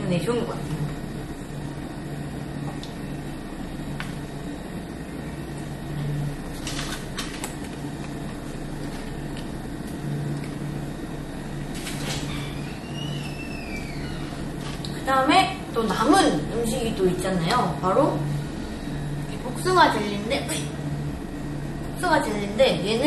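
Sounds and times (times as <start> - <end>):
low appliance hum: 0.0 - 23.0.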